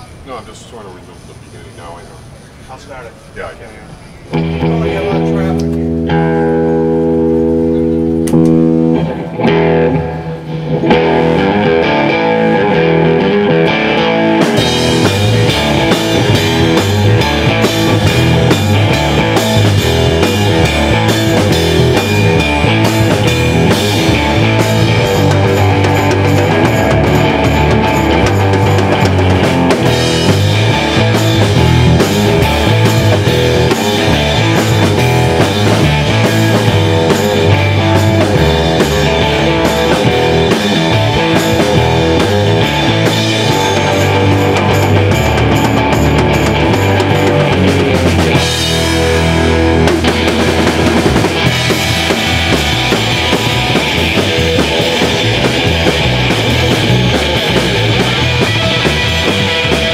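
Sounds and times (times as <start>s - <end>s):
electric bass: 1.1s - 59.9s
electric guitar: 3.9s - 59.9s
drum kit: 4.3s - 59.9s.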